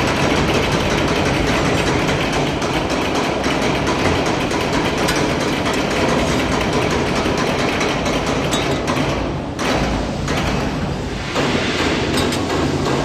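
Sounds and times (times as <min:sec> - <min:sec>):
rattling machine noise: 0:00.0 - 0:13.0.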